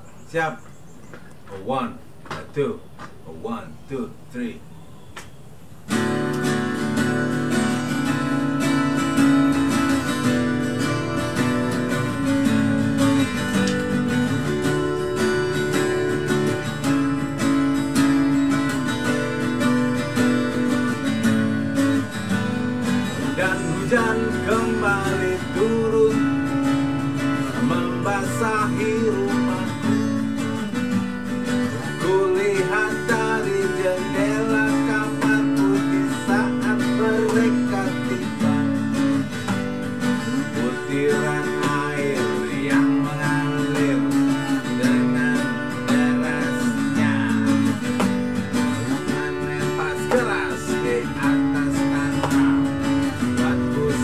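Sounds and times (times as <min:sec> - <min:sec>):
acoustic guitar strumming: 0:05.8 - 0:54.0.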